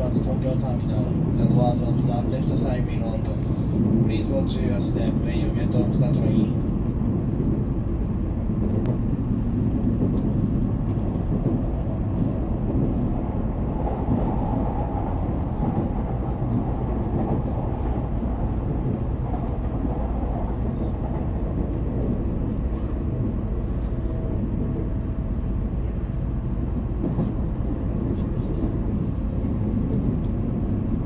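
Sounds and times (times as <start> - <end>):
train rumbling from inside cabin: 0.0 - 31.0.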